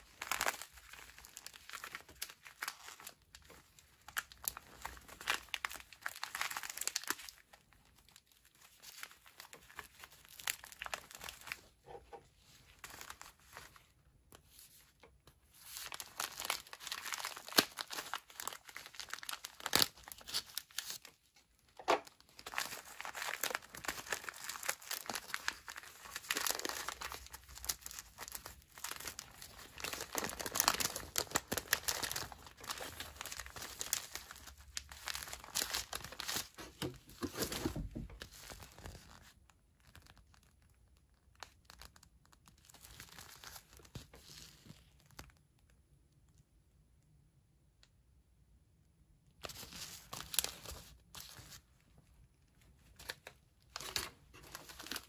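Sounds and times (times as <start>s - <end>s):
food packets crinkling: 0.0s - 14.0s, 15.6s - 45.4s, 49.5s - 55.0s.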